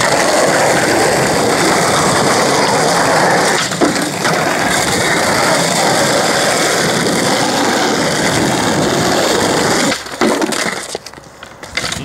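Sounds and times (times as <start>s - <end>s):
skateboard wheels rolling on asphalt: 0.0s - 12.0s.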